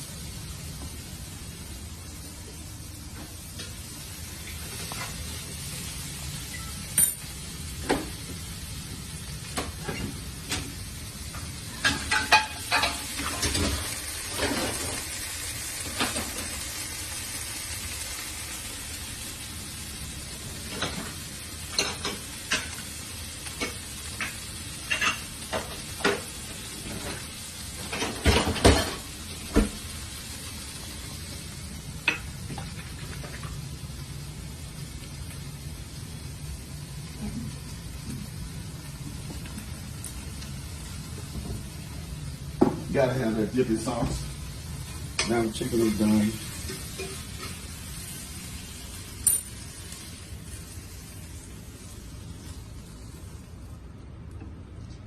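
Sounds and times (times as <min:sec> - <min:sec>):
chicken sizzling in a pan: 0:00.0 - 0:54.0.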